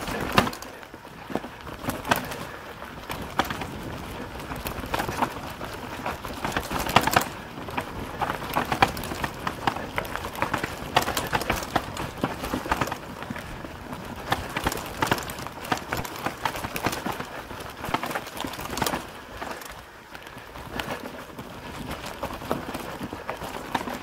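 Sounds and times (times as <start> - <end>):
bike frame and chain rattling: 0.0 - 24.0.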